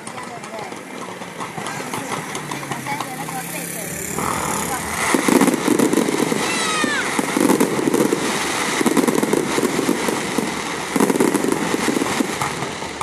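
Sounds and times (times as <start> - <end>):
fireworks and firecrackers crackling: 0.0 - 13.0.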